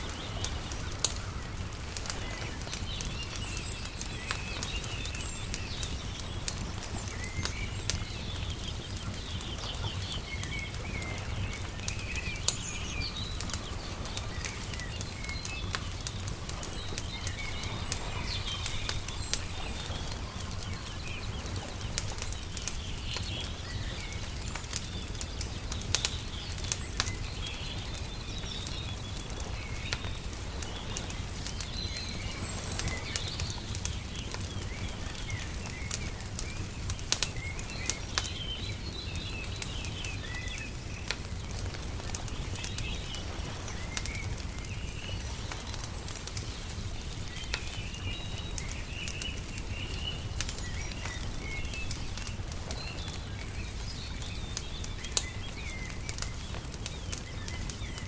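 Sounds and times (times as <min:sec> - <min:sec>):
sharp fire pops: 0:00.0 - 0:58.0
small birds chirping: 0:00.0 - 0:58.0
wood fire crackling: 0:00.0 - 0:58.0.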